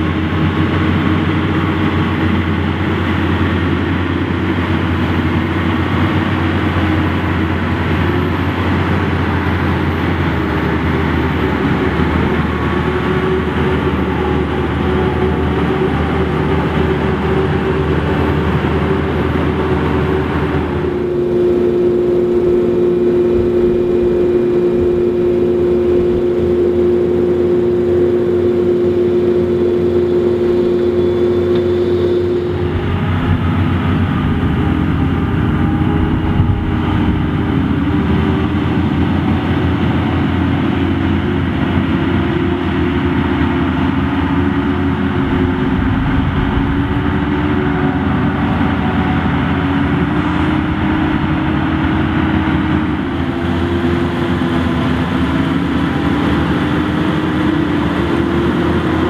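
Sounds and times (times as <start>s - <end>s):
forage harvester: 0.0s - 59.0s
tractor engines: 0.0s - 59.0s.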